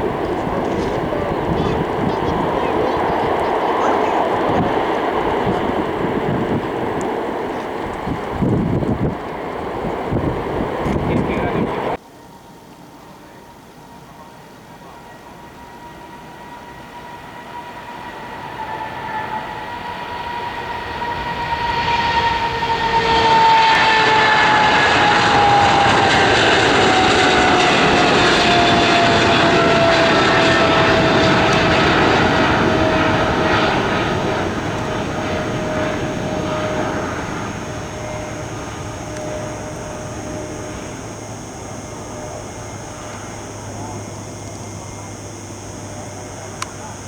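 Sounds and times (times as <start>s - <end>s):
aircraft engine roar: 0.0s - 12.0s, 13.2s - 47.0s
aircraft engine whine falling: 0.0s - 12.0s, 15.0s - 47.0s.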